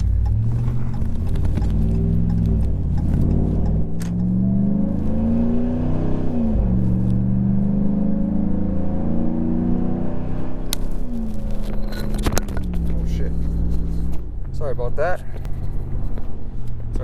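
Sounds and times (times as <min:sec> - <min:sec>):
truck engine accelerating: 0:00.0 - 0:14.8.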